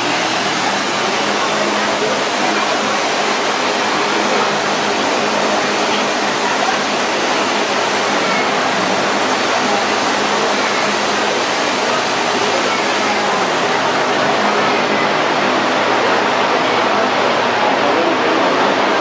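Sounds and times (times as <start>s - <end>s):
air blower running: 0.0s - 19.0s.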